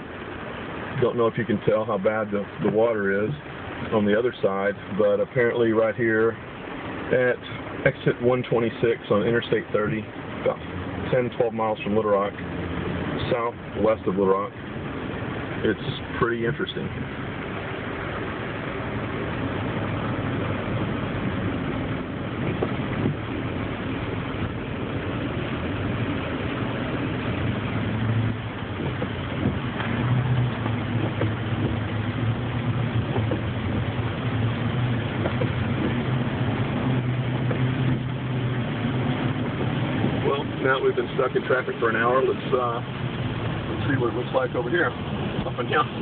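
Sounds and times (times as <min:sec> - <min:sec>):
low engine hum: 0:00.0 - 0:46.0.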